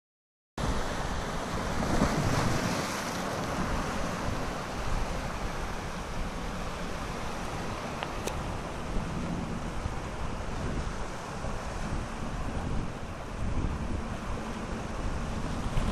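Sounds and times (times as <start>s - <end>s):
sea waves washing on rocks: 0.6s - 15.9s
wind buffeting microphone: 0.6s - 15.9s.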